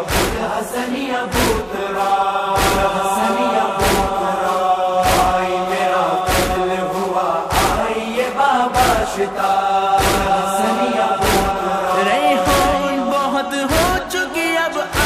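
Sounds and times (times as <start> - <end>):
chest-beating rhythm: 0.0 - 15.0
group of voices chanting: 0.0 - 15.0.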